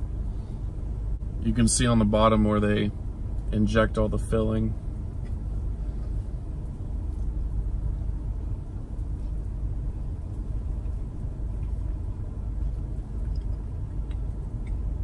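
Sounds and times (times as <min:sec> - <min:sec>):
car idling: 0:00.0 - 0:15.0.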